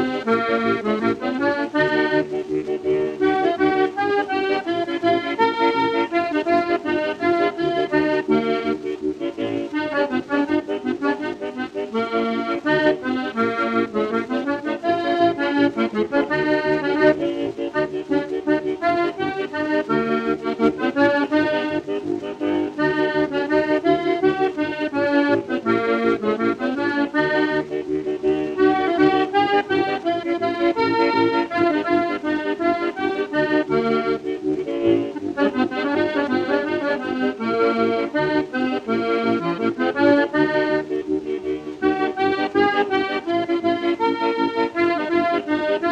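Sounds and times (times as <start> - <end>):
lively instrumental music: 0.0 - 45.9.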